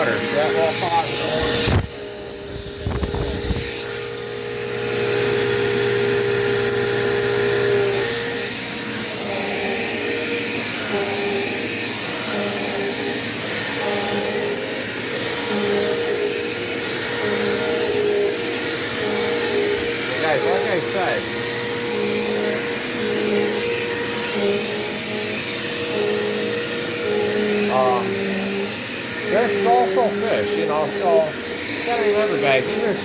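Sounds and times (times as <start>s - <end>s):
vacuum cleaner motor whine: 0.0s - 33.0s.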